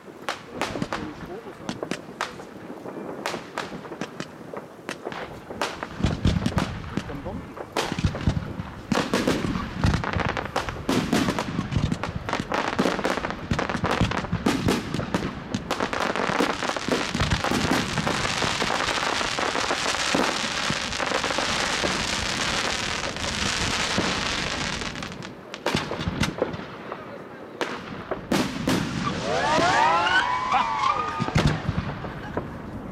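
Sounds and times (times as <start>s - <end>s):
firework shots and bursts: 0.0s - 32.9s.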